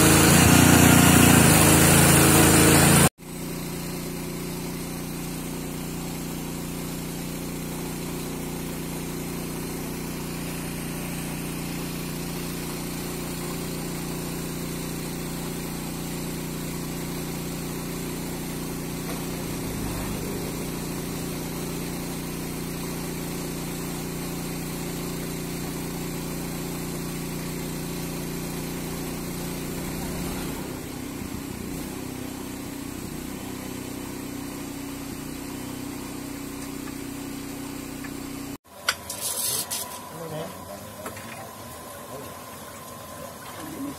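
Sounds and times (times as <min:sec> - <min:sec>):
engine running: 0:00.0 - 0:38.6.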